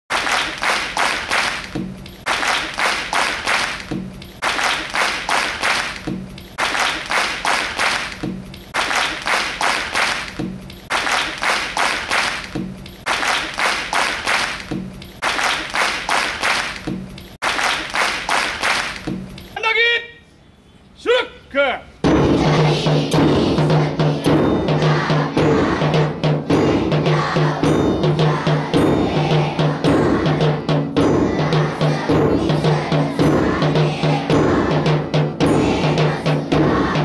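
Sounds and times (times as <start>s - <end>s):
fast percussive beat: 0.1s - 19.6s, 22.0s - 37.0s.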